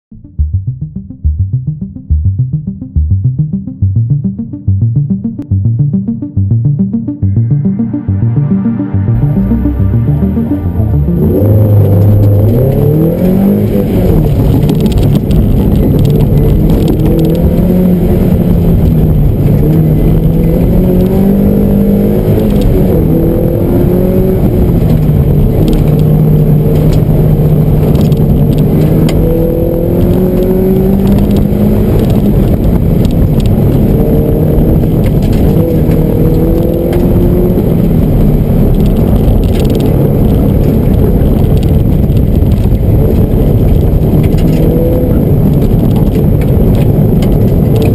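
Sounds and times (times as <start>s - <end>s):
car engine revving: 6.9s - 47.9s.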